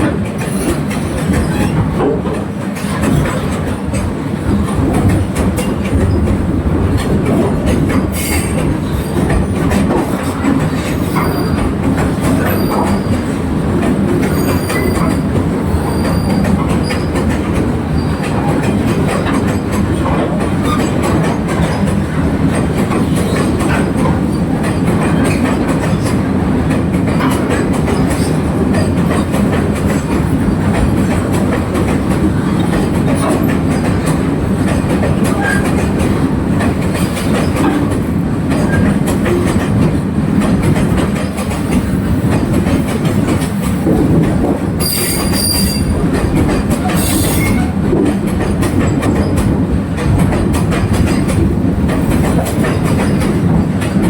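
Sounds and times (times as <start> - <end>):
train rumbling on track: 0.0 - 54.0
wheels clicking over rails: 0.0 - 54.0.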